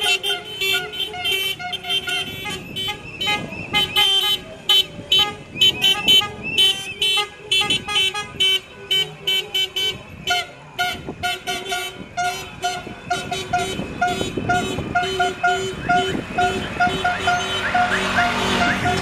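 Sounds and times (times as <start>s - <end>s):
vehicle horns honking: 0.0s - 19.0s.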